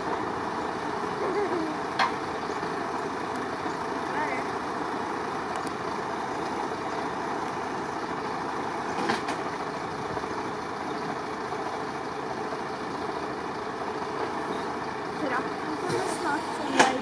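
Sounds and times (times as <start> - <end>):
large vehicle engine running: 0.0 - 17.0.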